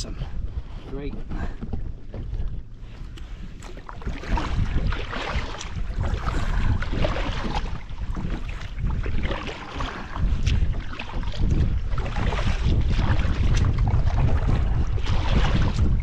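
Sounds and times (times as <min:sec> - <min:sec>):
water splashing around kayak: 0:00.0 - 0:16.0
wind buffeting microphone: 0:00.0 - 0:16.0.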